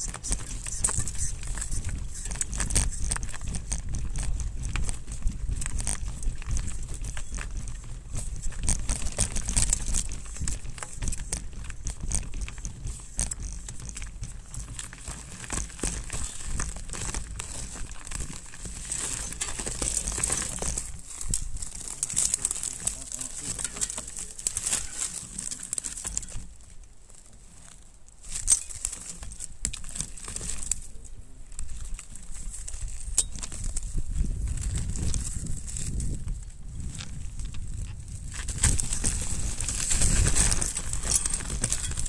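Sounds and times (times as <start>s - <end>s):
bike clicks and rattles: 0.0s - 26.6s, 28.3s - 42.0s
bike tyres crunching over snow: 0.0s - 42.0s.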